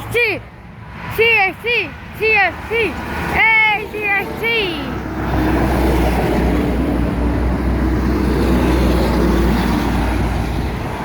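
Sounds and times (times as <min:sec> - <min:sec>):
trucks passing by: 0:00.0 - 0:11.0.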